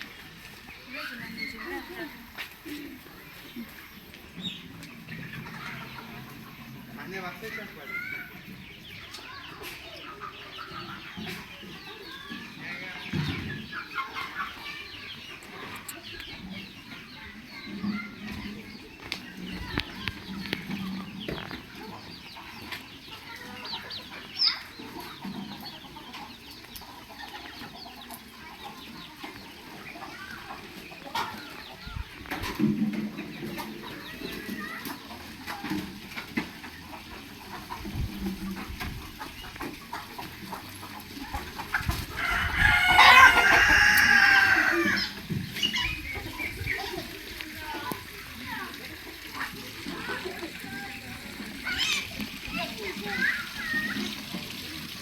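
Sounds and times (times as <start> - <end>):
birds chirping: 0.0 - 55.0
chickens clucking: 0.0 - 55.0.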